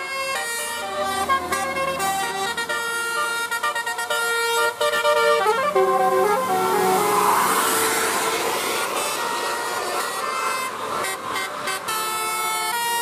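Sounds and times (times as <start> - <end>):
bus horns playing a melody: 0.0 - 13.0.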